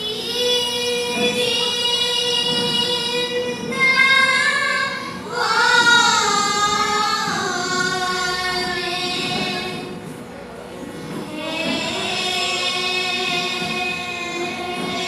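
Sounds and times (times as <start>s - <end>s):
girls singing together: 0.0s - 15.0s
harmonium sustaining a note: 0.0s - 15.0s.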